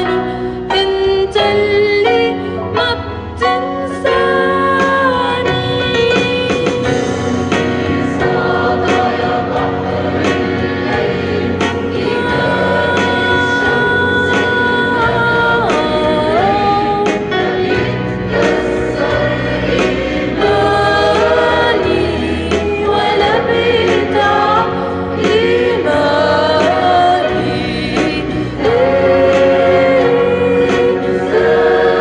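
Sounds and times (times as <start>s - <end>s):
instrumental accompaniment: 0.0s - 32.0s
church choir singing a hymn: 2.9s - 32.0s.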